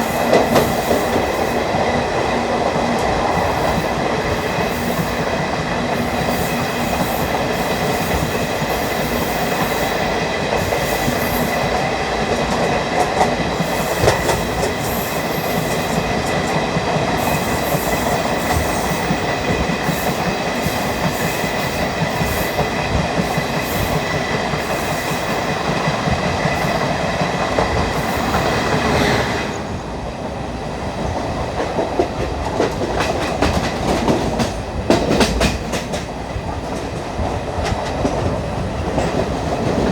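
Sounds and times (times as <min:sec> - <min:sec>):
train coach rumbling and rattling: 0:00.0 - 0:39.9
wheels clickety-clack: 0:00.1 - 0:29.0, 0:31.0 - 0:39.9.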